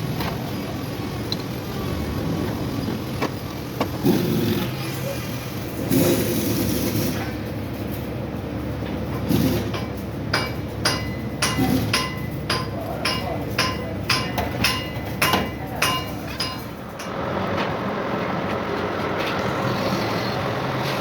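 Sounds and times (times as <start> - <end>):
workshop rumble: 0.0 - 21.0.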